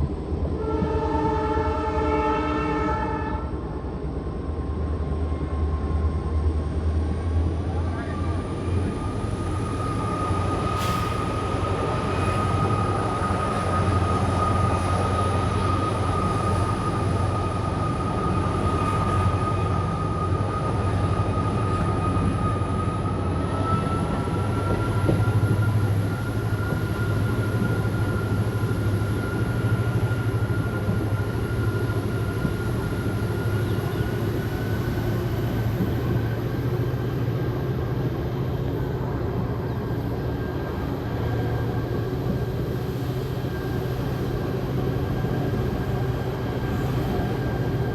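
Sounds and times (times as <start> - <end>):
diesel locomotive engine rumbling: 0.0 - 47.9.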